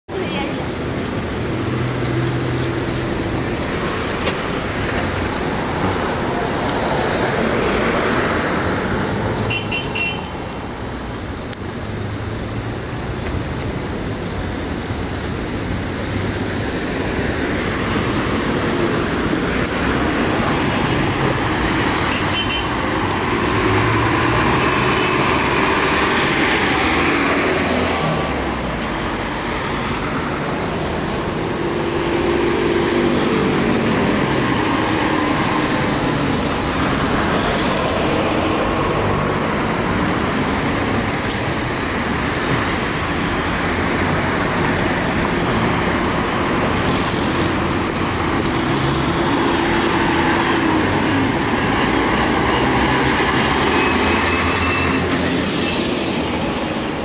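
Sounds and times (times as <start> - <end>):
tyre noise on road: 0.1 - 57.0
cars driving past: 0.7 - 57.0.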